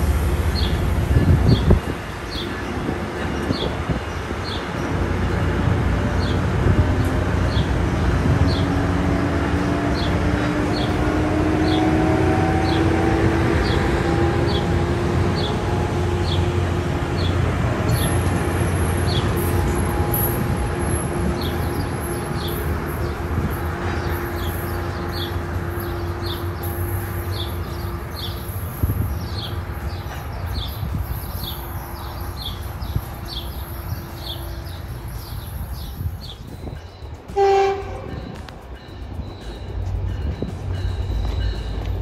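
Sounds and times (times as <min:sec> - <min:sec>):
train engine rumble rising in pitch: 0:00.0 - 0:42.0.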